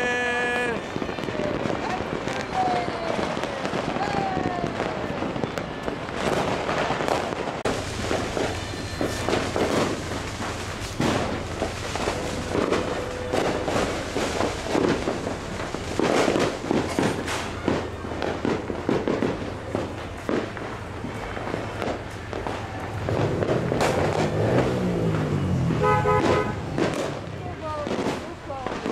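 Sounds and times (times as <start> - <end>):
fireworks and firecrackers crackling: 0.0 - 28.9.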